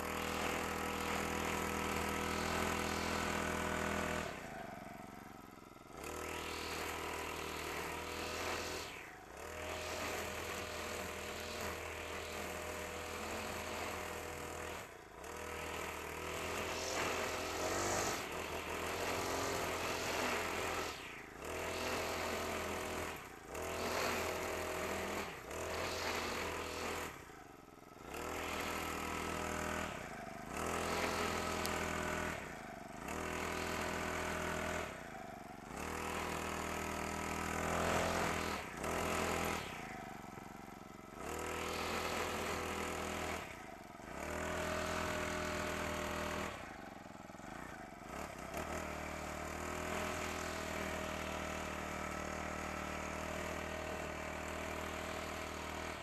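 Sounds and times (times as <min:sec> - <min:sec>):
brush cutter engine revving: 0:00.0 - 0:56.0
cutting head mowing grass: 0:00.0 - 0:56.0.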